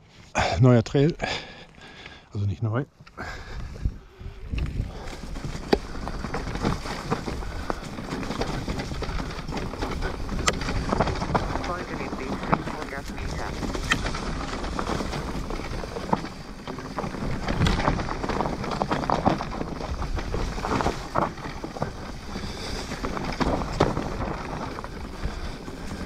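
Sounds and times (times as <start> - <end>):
bike tyres rolling on dirt: 0.0 - 26.0
bike knocking and rattling: 3.2 - 26.0
wind on microphone: 3.2 - 26.0.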